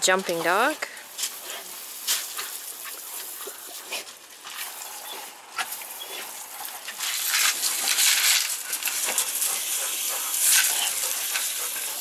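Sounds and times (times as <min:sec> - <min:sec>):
sprinkler spraying water on gravel: 0:00.0 - 0:12.0.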